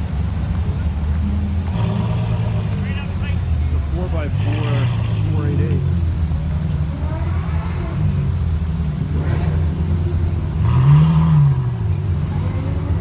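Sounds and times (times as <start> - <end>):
car engine revving: 0.0 - 13.0
cars idling: 0.0 - 13.0.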